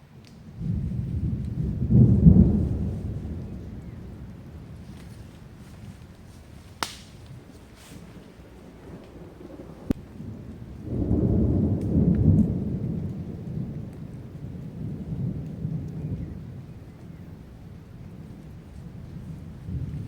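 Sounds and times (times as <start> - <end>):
rolling thunder: 0.3 - 20.0.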